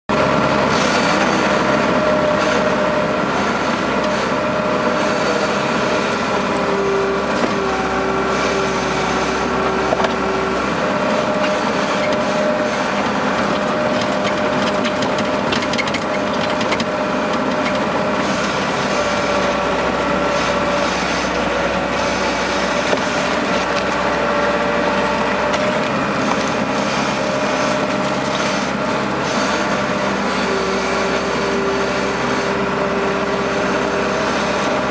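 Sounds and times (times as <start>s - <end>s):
diesel engine running under load: 0.1s - 34.9s
shifting whine: 0.1s - 34.9s.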